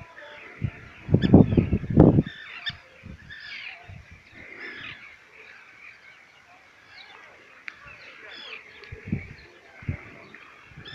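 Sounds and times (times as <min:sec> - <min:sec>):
birds calling: 0:00.0 - 0:10.9.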